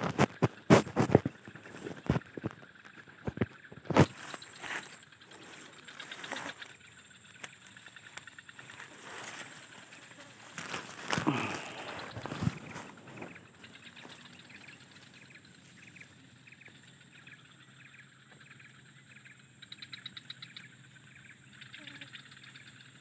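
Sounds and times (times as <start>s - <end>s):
bird chirping: 0.2s - 23.0s.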